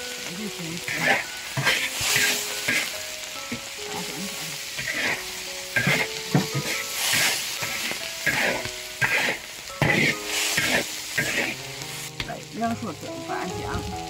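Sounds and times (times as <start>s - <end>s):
food sizzling in hot oil: 0.0s - 14.0s
metal spatula scraping a wok: 0.8s - 12.2s.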